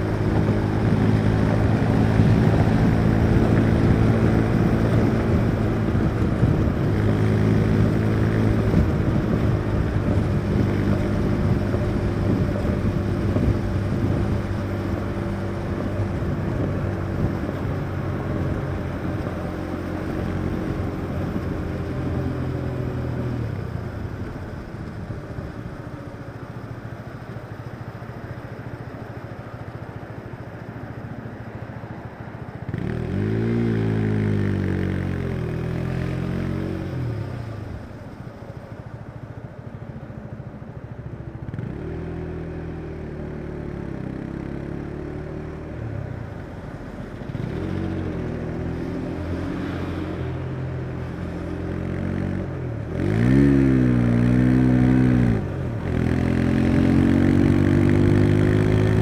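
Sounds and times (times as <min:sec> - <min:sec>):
motorcycle engine revving: 0:00.0 - 0:25.6, 0:32.6 - 0:38.2, 0:41.4 - 0:59.0.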